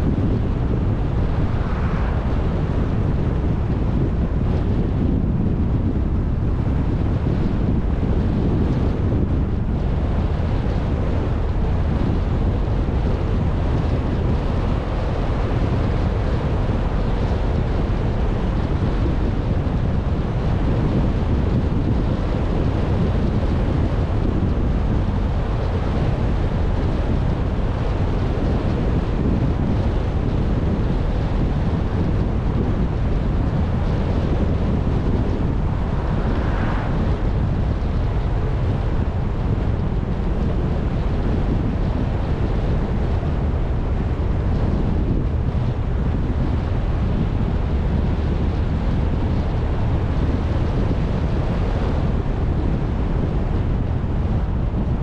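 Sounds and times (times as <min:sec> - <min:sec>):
road noise: 0:00.0 - 0:54.9
wind buffeting microphone: 0:00.0 - 0:55.0.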